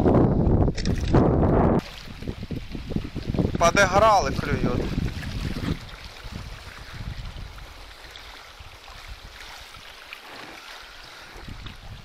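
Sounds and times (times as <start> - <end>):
wind buffeting microphone: 0.0 - 9.9, 10.8 - 12.0
small waves lapping: 1.8 - 12.0.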